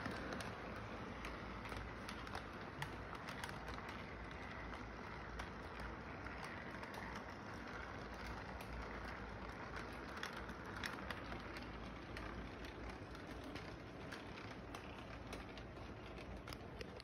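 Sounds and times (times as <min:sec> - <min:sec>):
model train rumble and whir: 0:00.0 - 0:17.0
wheels clicking on rails: 0:00.0 - 0:17.0.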